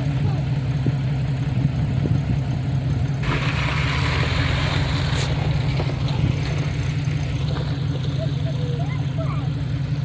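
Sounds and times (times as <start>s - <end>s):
engine idling low hum: 0.0s - 10.0s.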